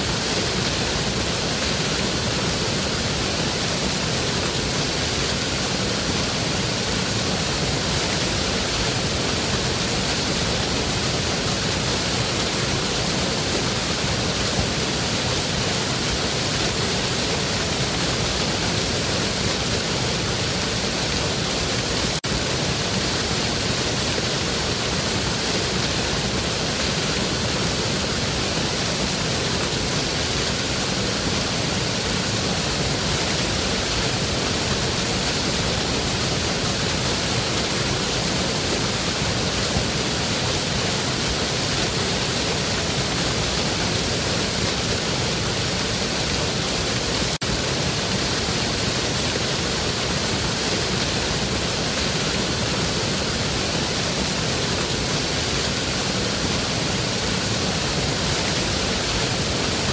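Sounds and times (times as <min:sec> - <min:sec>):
waterfall and river rapids rushing: 0:00.0 - 0:59.9.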